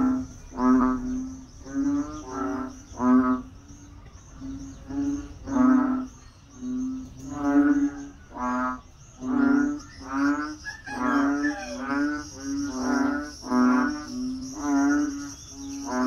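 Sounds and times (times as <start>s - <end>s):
frogs calling: 0.0s - 16.0s
high insect buzz: 0.0s - 16.0s.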